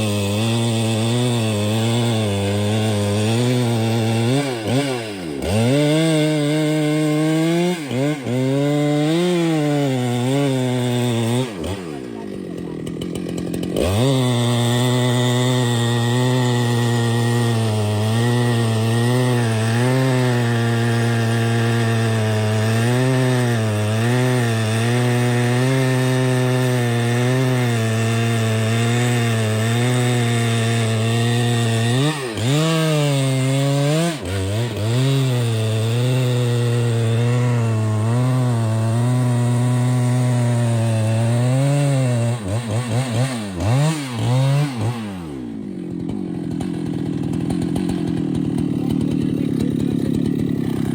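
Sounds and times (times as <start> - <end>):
chainsaw cutting tree: 0.0 - 50.9.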